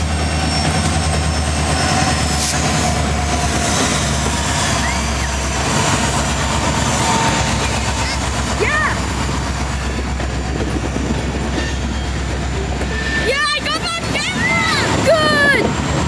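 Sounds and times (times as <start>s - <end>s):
diesel locomotive drone: 0.0s - 16.0s
railcars rolling on track: 0.0s - 16.0s.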